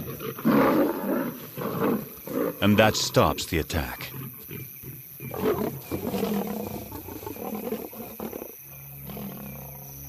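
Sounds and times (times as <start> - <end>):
lions growling and snarling: 0.0 - 3.3, 4.1 - 10.0.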